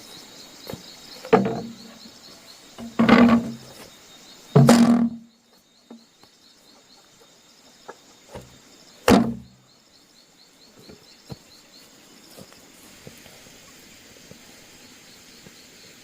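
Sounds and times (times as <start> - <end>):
high bird or insect chirps: 0.0 - 16.0.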